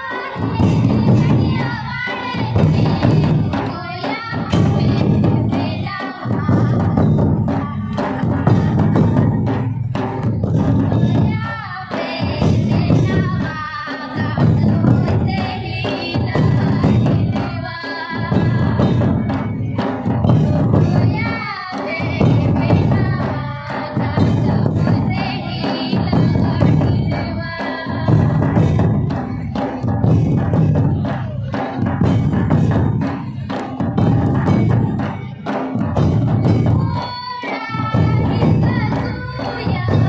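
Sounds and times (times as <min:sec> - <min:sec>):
heavy drum beat: 0:00.0 - 0:40.0.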